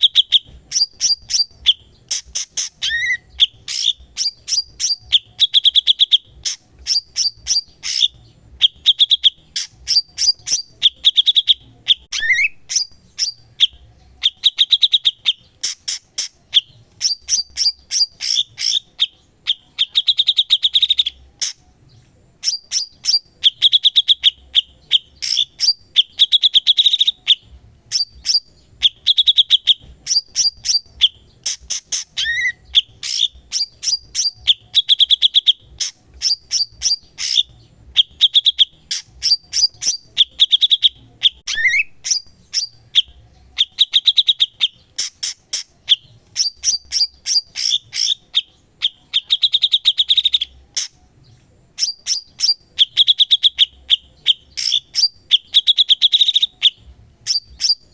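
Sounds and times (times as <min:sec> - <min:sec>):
bulbul singing clicking trills: 0:00.0 - 0:57.9.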